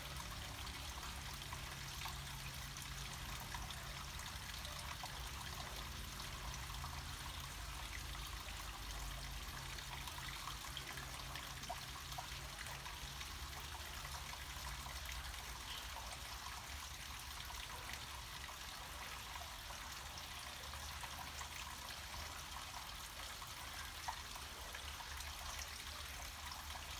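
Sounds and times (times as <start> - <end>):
stream water trickling and flowing: 0.0 - 26.9.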